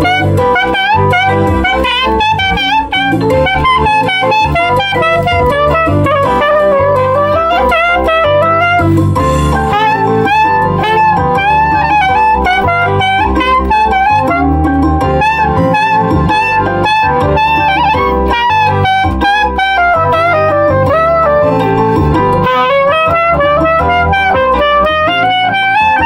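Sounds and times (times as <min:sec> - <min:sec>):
backing track of bass and chords: 0:00.0 - 0:26.0
soprano saxophone melody: 0:00.0 - 0:26.0.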